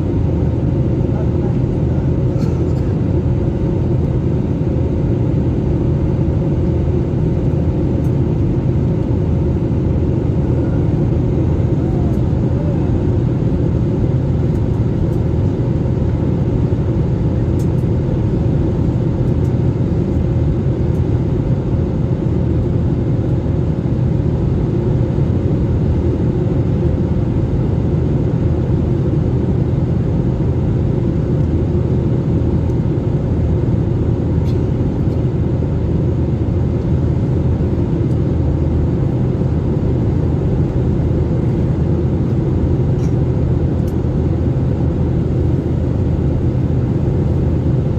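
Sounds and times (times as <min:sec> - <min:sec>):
airliner cabin engine rumble: 0:00.0 - 0:47.9.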